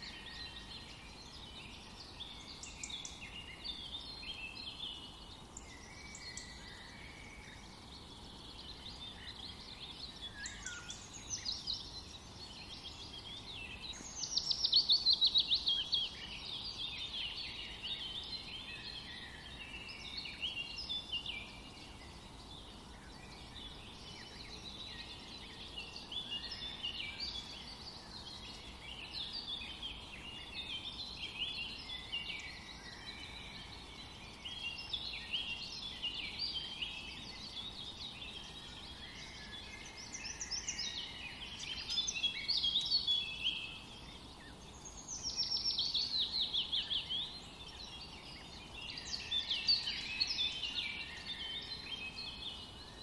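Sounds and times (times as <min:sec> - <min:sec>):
small birds chirping and singing: 0:00.0 - 0:53.0.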